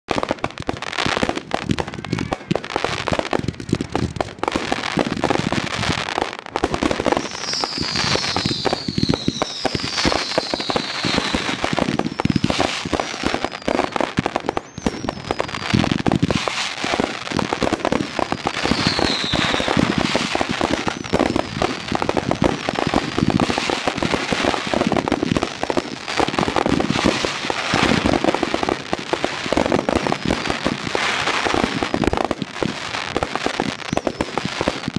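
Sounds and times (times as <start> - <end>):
fireworks barrage: 0.1 - 34.9
fireworks whistles falling in pitch: 0.1 - 34.9.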